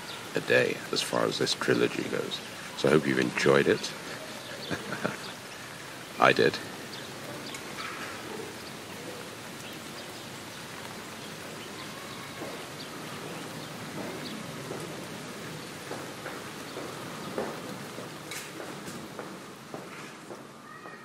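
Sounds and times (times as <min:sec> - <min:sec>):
light rain hiss: 0:00.0 - 0:21.0.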